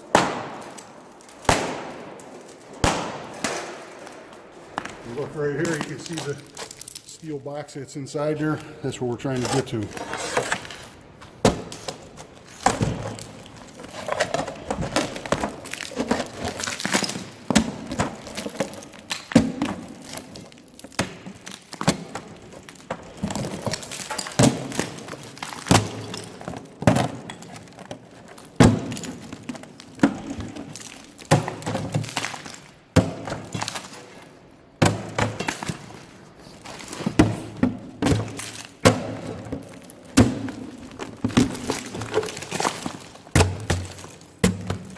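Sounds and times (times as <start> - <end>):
cracking and crunching material: 0.0 - 7.4, 8.4 - 44.9.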